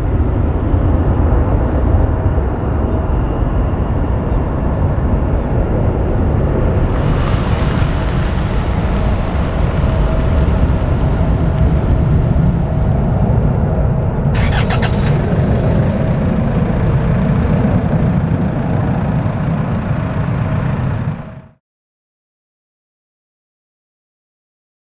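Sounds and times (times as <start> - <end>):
distant jet engine rumble: 0.0 - 21.6.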